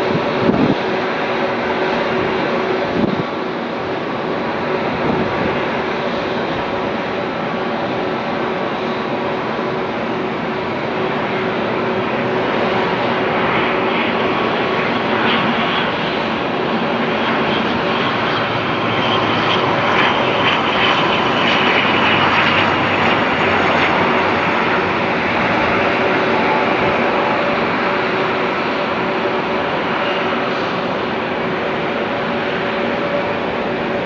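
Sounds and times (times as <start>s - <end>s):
airliner engines landing: 0.0s - 34.0s.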